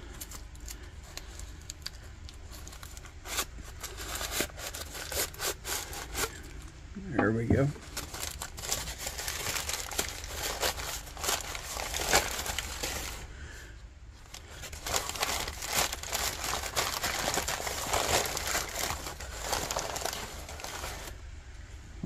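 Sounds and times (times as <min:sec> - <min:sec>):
packing paper crumpling: 0:00.0 - 0:06.7, 0:07.8 - 0:21.2.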